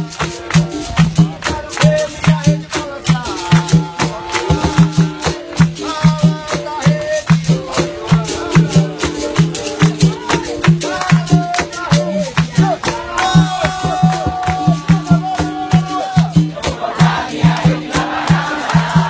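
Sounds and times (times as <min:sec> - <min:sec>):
low repeating beat: 0:00.0 - 0:19.0
shaken rattle: 0:00.0 - 0:19.0
voices singing: 0:00.3 - 0:19.0.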